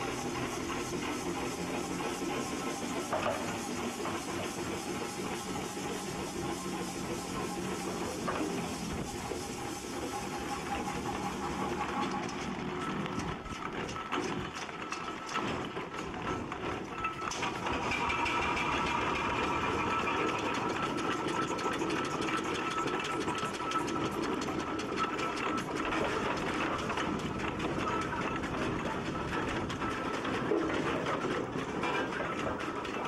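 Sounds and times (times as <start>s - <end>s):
steam engine clattering: 0.0s - 33.0s.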